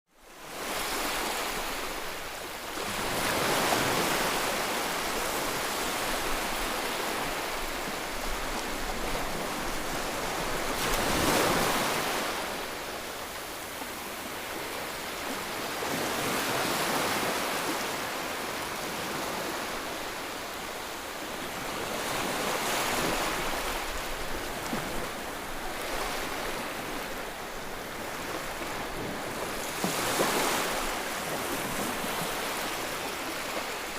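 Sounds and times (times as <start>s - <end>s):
surf waves rushing: 0.8s - 33.9s.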